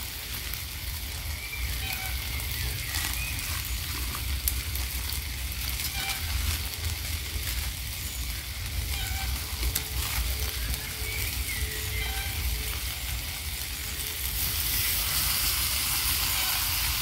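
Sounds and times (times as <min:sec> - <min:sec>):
fire crackling: 0:00.0 - 0:17.0
food sizzling in a pan: 0:00.0 - 0:17.0.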